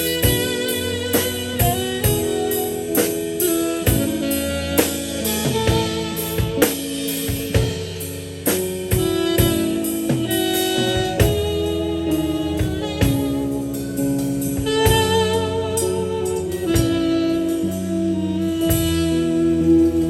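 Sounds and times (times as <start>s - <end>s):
instrumental band music: 0.0s - 20.0s.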